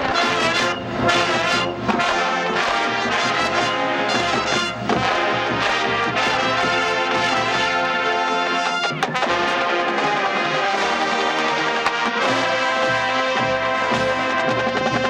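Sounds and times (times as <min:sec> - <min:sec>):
brass section playing chords: 0:00.0 - 0:15.0.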